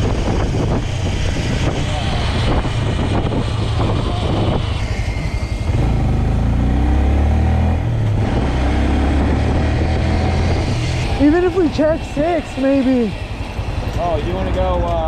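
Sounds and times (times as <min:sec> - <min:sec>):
wind buffeting microphone: 0:00.0 - 0:06.5, 0:07.5 - 0:15.0
motorcycle engine accelerating: 0:00.0 - 0:15.0.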